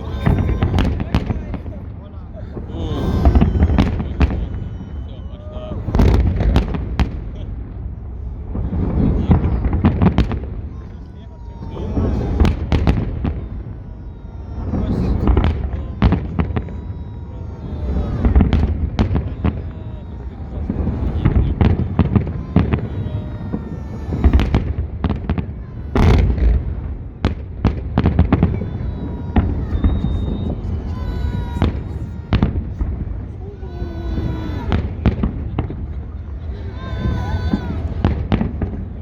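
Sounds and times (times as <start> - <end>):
crowd voices: 0.0 - 39.0
fireworks bursting: 0.0 - 39.0.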